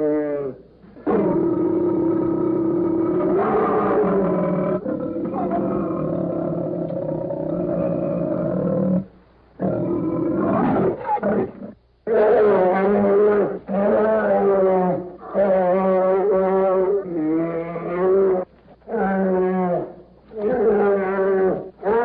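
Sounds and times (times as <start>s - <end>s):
bear roaring: 0.0s - 22.0s.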